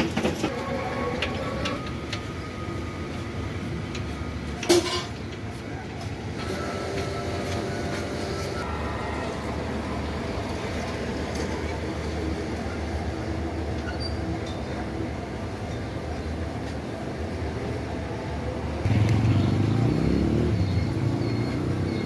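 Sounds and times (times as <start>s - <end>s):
street traffic noise: 0.0s - 22.0s
vehicle engine: 0.0s - 22.0s.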